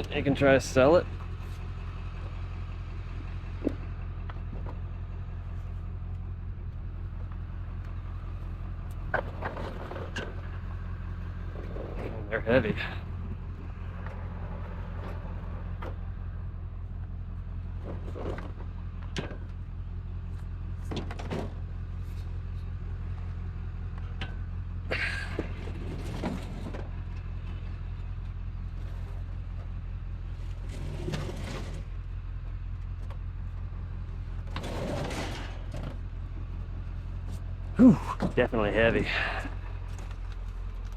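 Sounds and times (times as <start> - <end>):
vehicle engine idling: 0.0 - 40.9.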